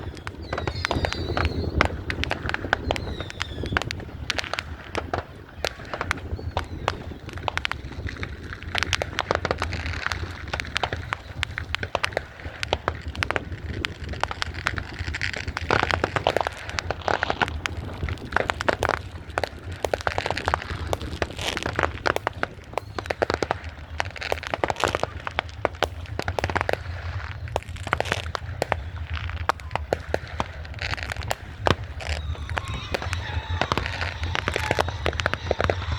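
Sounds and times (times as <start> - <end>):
fireworks crackling: 0.0 - 35.9.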